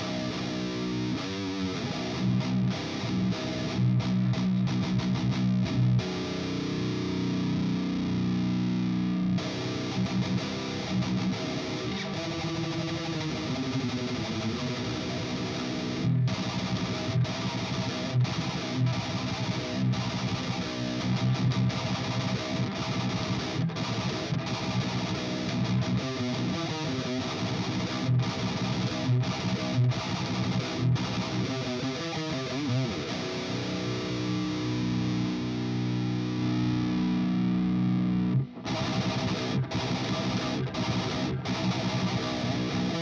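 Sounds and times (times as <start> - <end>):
distorted electric guitar: 0.0 - 43.0.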